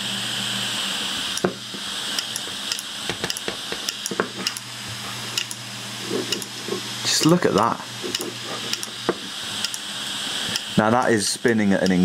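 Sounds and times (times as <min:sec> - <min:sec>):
hard drive humming: 0:00.0 - 0:12.0.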